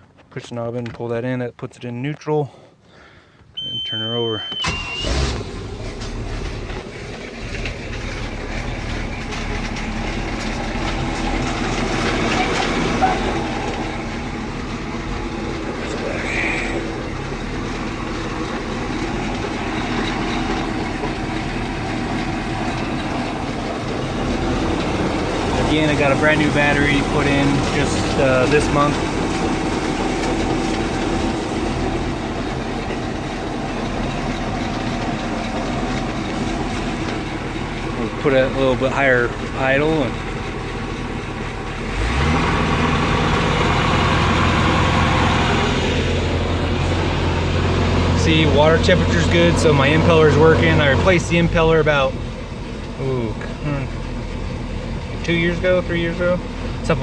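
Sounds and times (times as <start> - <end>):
boat engine idling: 3.6 - 57.0.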